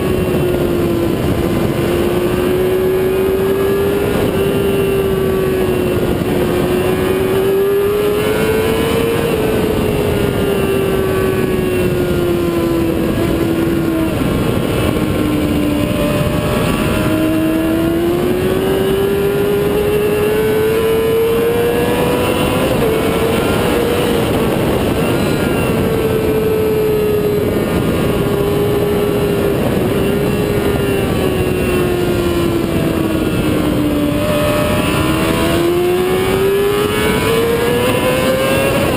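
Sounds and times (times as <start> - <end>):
motorcycle engine revving: 0.0 - 38.9
wind rush on microphone: 0.0 - 38.9.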